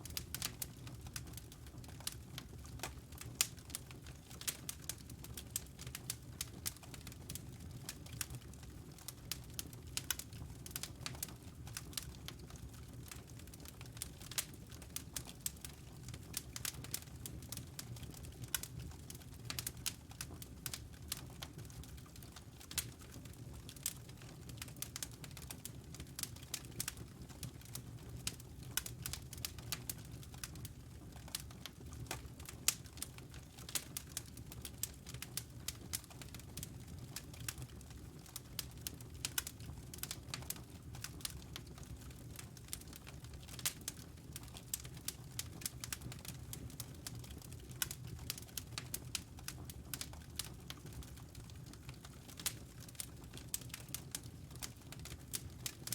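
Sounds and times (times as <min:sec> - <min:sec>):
fire crackles and pops: 0:00.0 - 0:55.9.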